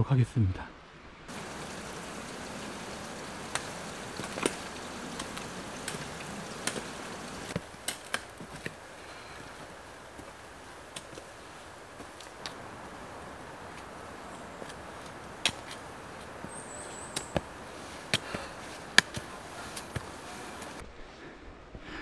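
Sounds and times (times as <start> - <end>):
footsteps on wet trail: 1.3 - 20.8
steady hiss: 1.3 - 20.8.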